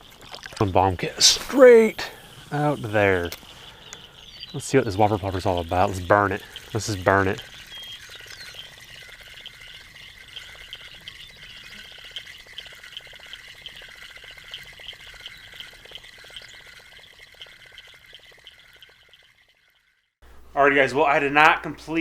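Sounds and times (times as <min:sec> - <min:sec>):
frogs and insects calling: 0:00.0 - 0:20.1
faint fast ticking: 0:00.0 - 0:20.6.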